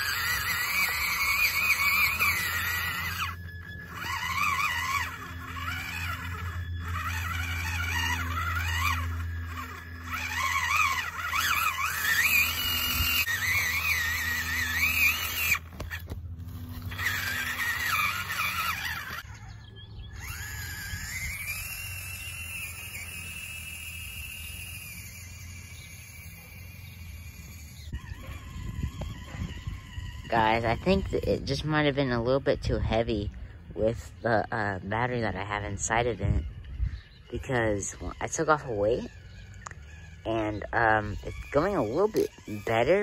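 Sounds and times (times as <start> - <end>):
electric toy car motor whining: 0.0 - 43.0.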